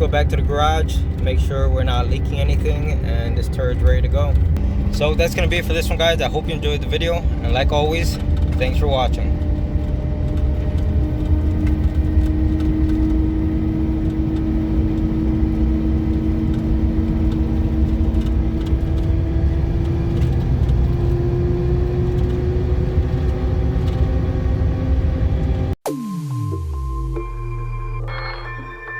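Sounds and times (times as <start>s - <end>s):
road and engine noise: 0.0s - 25.8s
differential whine: 0.0s - 28.9s.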